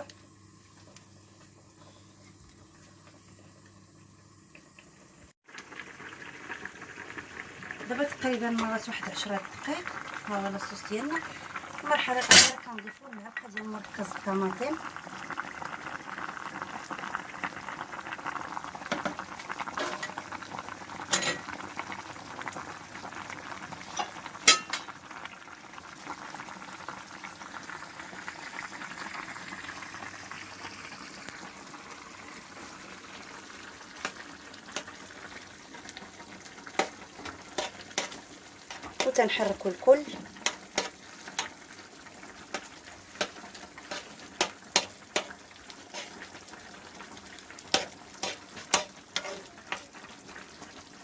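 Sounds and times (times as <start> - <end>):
sauce simmering and bubbling: 0.0 - 51.0.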